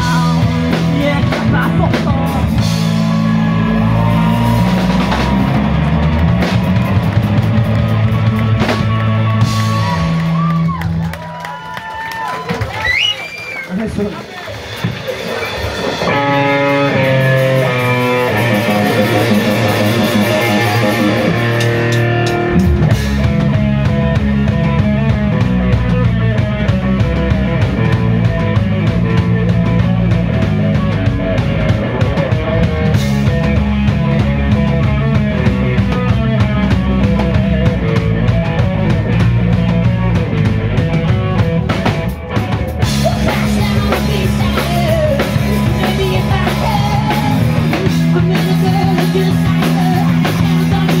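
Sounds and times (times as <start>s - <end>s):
bass guitar: 0.0s - 51.0s
drum kit: 0.0s - 51.0s
electric guitar line: 0.0s - 51.0s.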